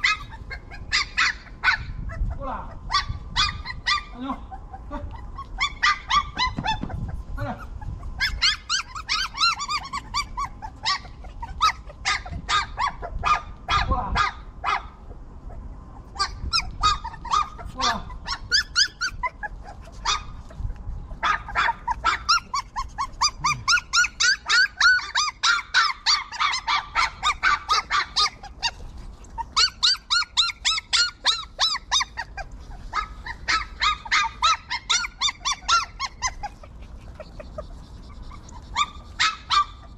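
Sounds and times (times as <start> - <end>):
puppies yelping and whimpering: 0.0 - 39.9.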